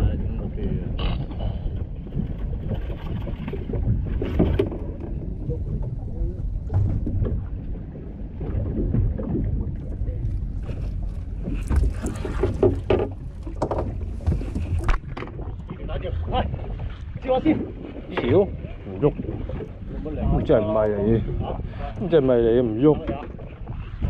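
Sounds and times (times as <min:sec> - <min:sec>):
boat low rumble: 0:00.0 - 0:24.0.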